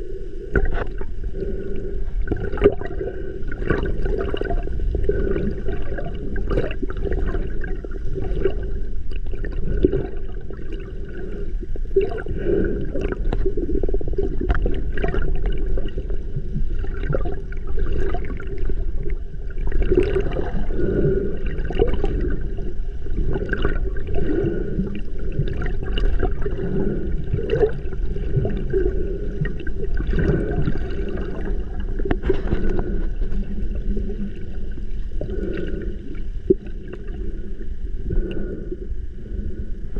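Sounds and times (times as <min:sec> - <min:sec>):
underwater rush and gurgling: 0:00.0 - 0:39.9
small underwater crackles and pops: 0:00.5 - 0:38.6.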